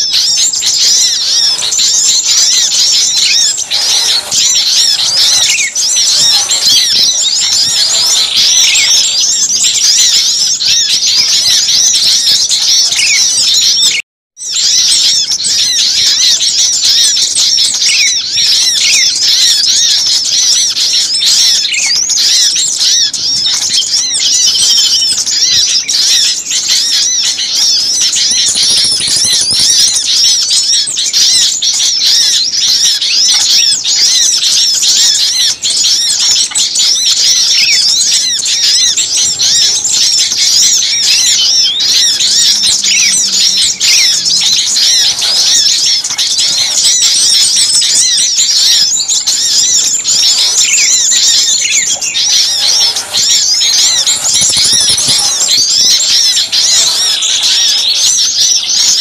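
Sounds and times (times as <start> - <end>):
chorus of songbirds chirping: 0.0 - 59.0.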